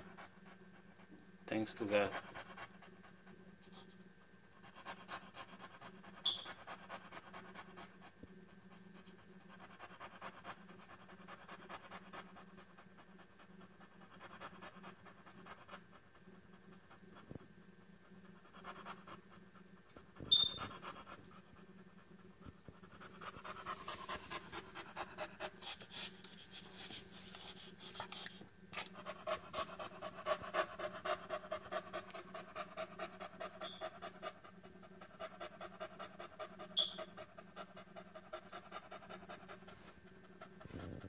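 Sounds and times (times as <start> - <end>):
dog panting: 0.0 - 41.0.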